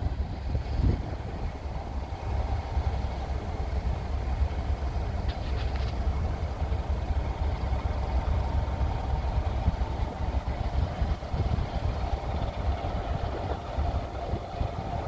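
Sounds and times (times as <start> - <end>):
locomotive engine rumbling: 0.0 - 15.0.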